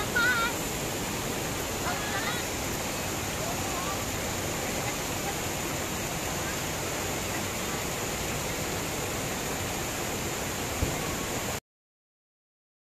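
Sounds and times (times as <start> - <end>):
flooded creek rushing: 0.0 - 11.6
heavy rain hissing: 0.0 - 11.6
water pouring off eaves: 0.0 - 11.6.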